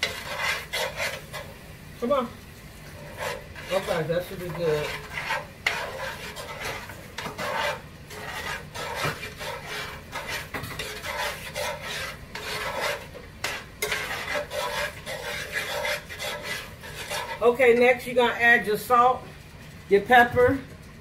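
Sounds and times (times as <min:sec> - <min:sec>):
metal spoon scraping skillet: 0:00.0 - 0:02.2, 0:02.8 - 0:18.0.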